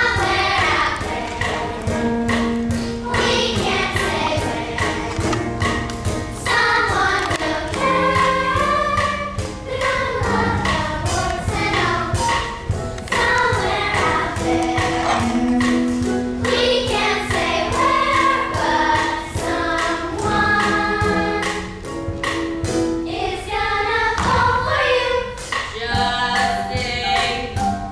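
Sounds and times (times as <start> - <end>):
chorus singing: 0.0 - 21.9, 23.0 - 26.5
backing music with steady beat: 0.0 - 27.9.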